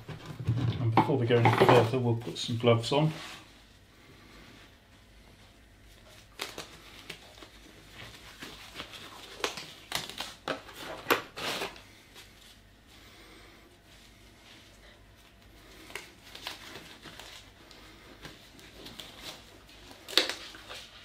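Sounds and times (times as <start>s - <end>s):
rubber gloves rustling and stretching: 0.0s - 21.0s.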